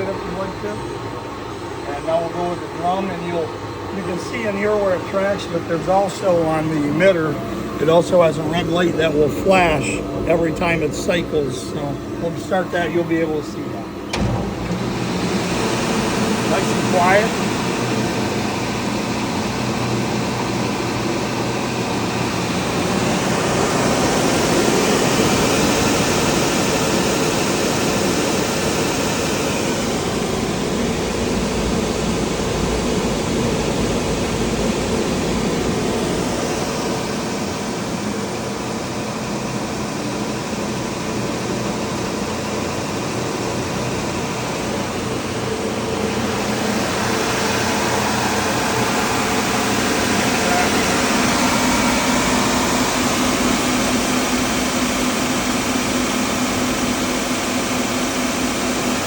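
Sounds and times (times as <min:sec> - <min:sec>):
belt sander running: 0:00.0 - 0:59.0.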